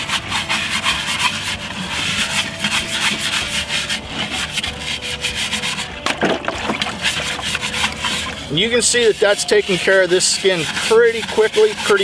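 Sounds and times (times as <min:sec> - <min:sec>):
brush scrubbing wet gourd shell: 0:00.0 - 0:12.0.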